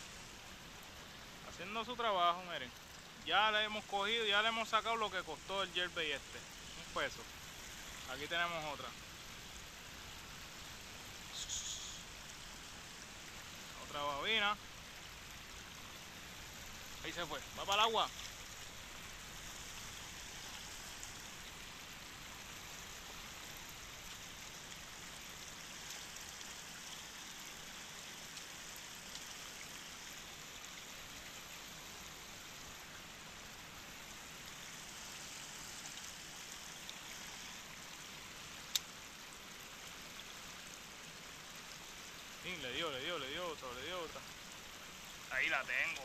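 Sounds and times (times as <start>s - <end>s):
river water rushing over rocks: 0.0s - 46.0s.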